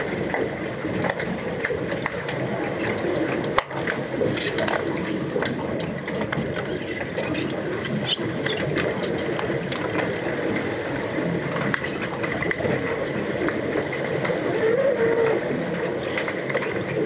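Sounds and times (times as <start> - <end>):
clicks and knocks of sticks and puck: 0.0 - 10.7, 11.5 - 14.4, 15.9 - 17.0
underwater rush of swimmers: 0.0 - 17.0.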